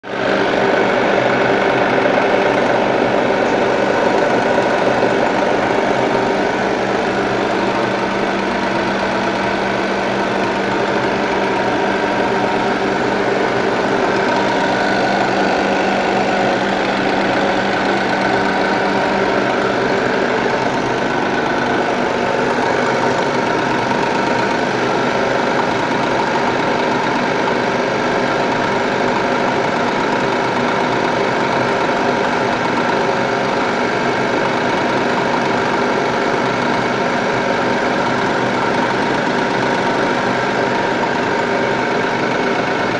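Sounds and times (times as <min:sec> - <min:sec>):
fryer machine hum: 0:00.0 - 0:42.9.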